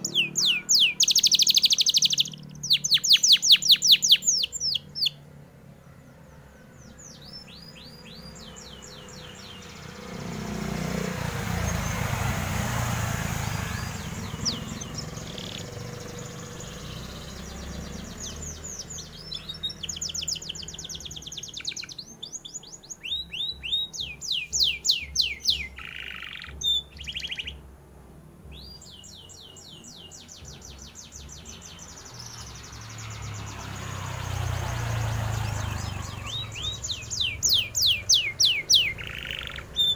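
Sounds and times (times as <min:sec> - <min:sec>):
canary singing trills: 0:00.0 - 0:27.7, 0:28.4 - 0:39.9.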